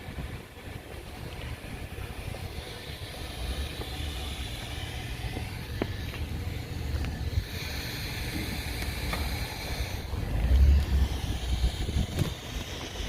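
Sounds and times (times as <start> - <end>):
steady hiss: 0.0 - 13.0
wind buffeting microphone: 0.0 - 13.0.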